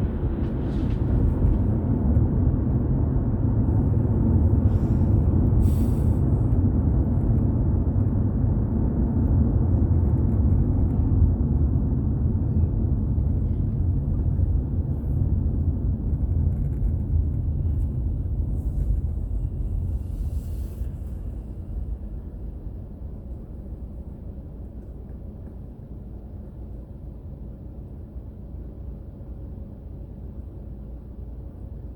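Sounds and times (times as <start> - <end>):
car driving on road: 0.0 - 31.9.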